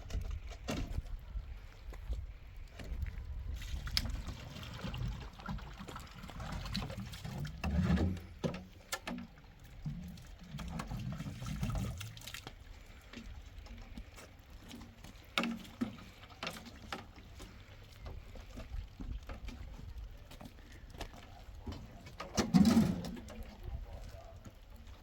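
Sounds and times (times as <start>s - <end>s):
water trickling and splashing: 0.0s - 25.0s.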